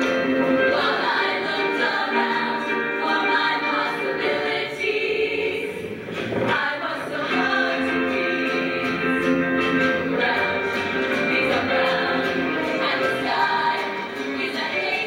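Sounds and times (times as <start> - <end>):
women's choir singing in parts: 0.0 - 15.0.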